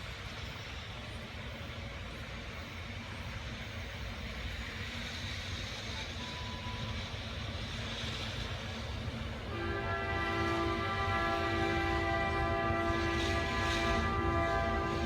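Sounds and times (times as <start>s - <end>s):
electric locomotive rumble: 0.0s - 15.0s.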